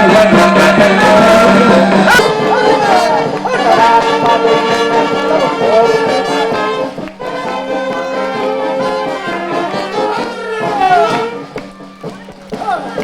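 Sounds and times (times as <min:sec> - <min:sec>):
brass band playing: 0:00.0 - 0:13.0.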